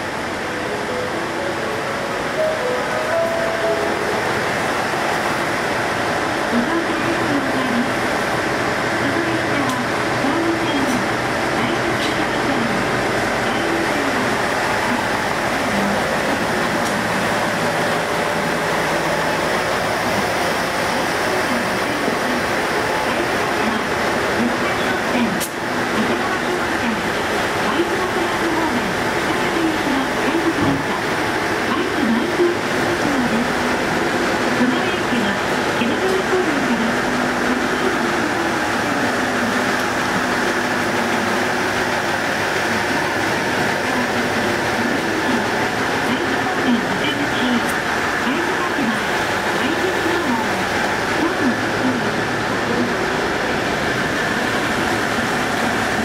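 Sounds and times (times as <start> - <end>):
air-conditioning units running: 0.0 - 56.0
diesel railcar engine idling: 0.0 - 56.0.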